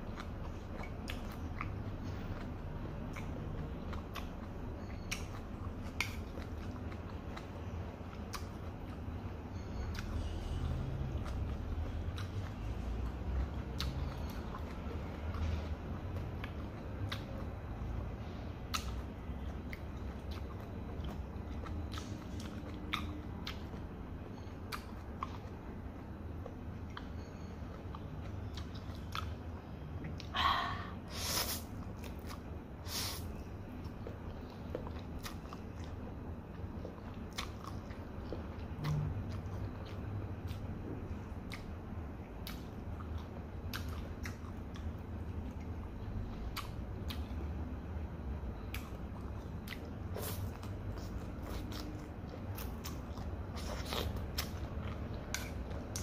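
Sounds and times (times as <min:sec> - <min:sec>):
chewing fried noodles: 0:00.0 - 0:30.4, 0:31.1 - 0:47.6, 0:48.5 - 0:56.0.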